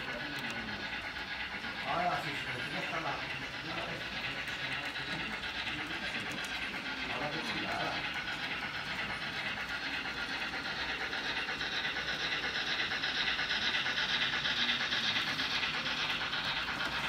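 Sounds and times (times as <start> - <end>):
model train wheels rattling: 0.0 - 17.0.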